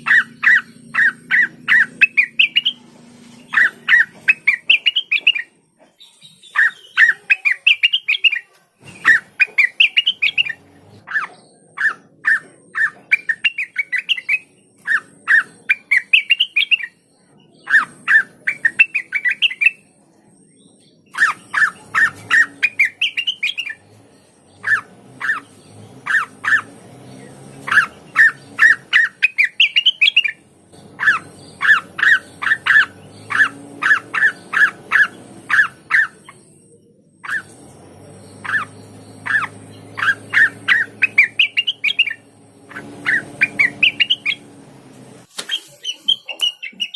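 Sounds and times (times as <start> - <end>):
bird singing stuttering phrases: 0.0 - 46.9.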